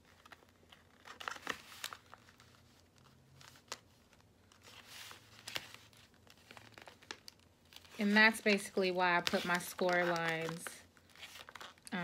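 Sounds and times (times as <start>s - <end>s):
paper wrapper crinkling: 0.0s - 12.0s.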